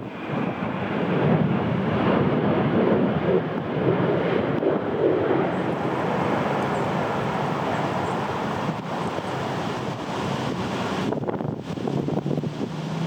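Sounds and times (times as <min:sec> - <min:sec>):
jet airliner engine: 0:00.0 - 0:13.0
wind buffeting microphone: 0:00.0 - 0:13.0.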